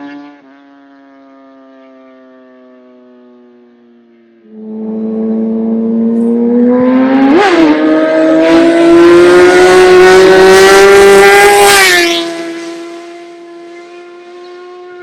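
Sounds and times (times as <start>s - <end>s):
motorcycle accelerating past: 0.0s - 15.0s.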